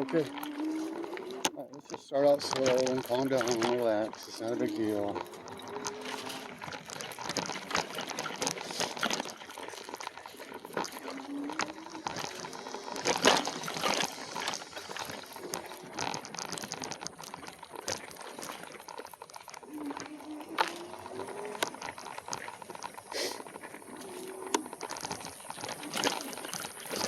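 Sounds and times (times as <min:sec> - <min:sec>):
tyres crackling on dirt: 0:00.0 - 0:27.0
bike rattling and knocking: 0:01.4 - 0:27.0.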